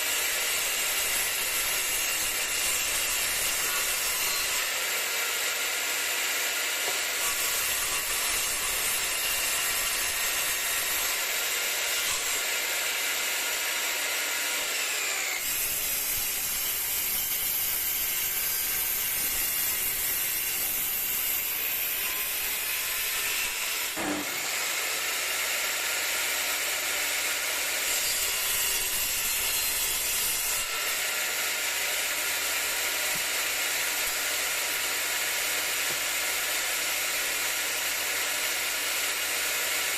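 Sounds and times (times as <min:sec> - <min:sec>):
table saw whining: 0:00.0 - 0:39.9.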